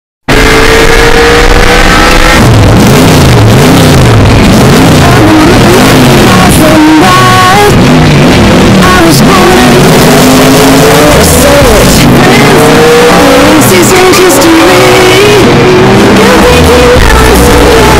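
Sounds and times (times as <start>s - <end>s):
distorted race car engine revving: 0.2s - 17.9s.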